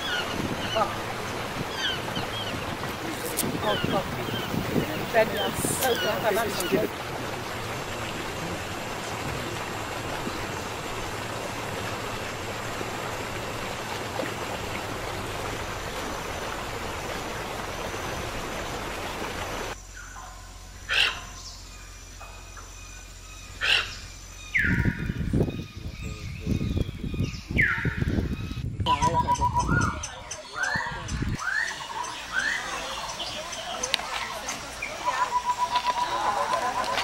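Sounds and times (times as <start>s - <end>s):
birds calling: 0.0s - 37.0s.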